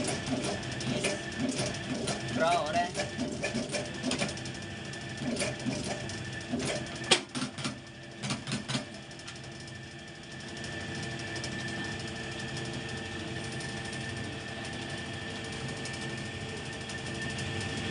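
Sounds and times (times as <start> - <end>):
hydraulic press humming: 0.0 - 17.9.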